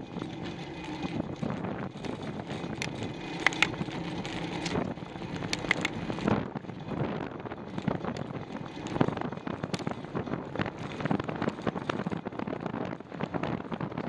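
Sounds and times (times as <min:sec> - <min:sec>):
bicycle clicks and rattles: 0:00.0 - 0:14.0
bicycle tyre and wind noise: 0:00.0 - 0:14.0.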